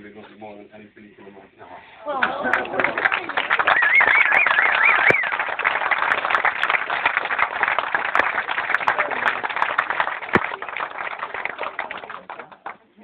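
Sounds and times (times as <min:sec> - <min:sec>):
crowd applauding: 0:02.1 - 0:12.9.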